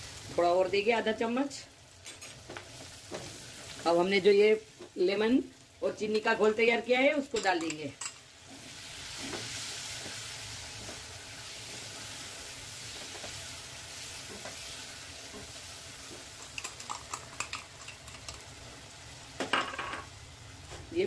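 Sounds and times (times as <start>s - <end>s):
potatoes sizzling in hot oil: 0.0s - 21.0s.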